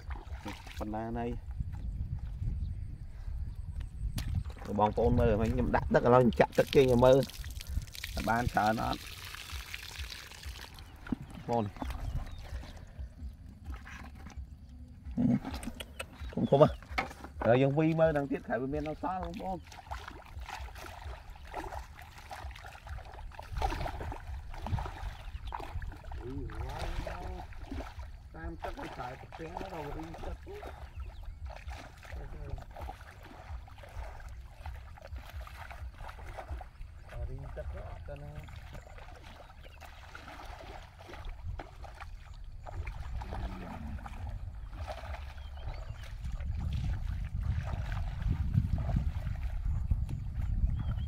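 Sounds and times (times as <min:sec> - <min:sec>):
feet wading through muddy water: 0:00.0 - 0:51.0.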